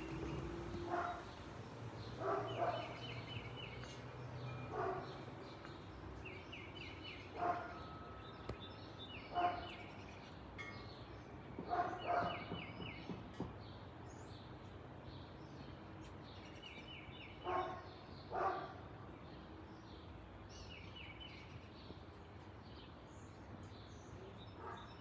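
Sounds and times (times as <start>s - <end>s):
birdsong trills: 0.0s - 25.0s.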